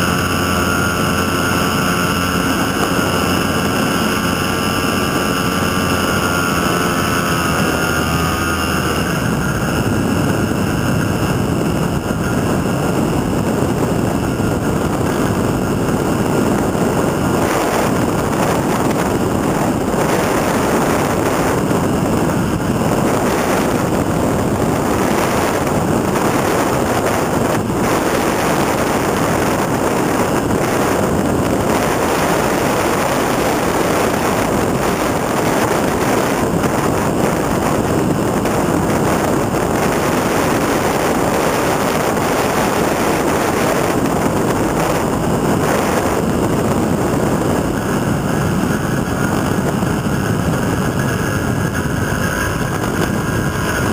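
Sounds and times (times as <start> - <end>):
engine and propeller tone: 0.0 - 53.9
loud wind rushing: 0.0 - 53.9.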